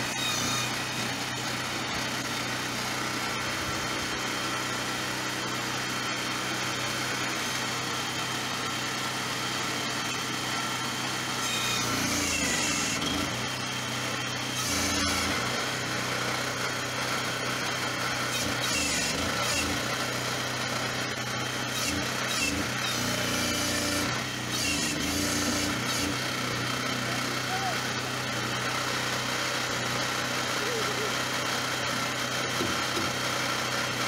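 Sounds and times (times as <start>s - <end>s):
small digger engine running: 0.0s - 34.0s.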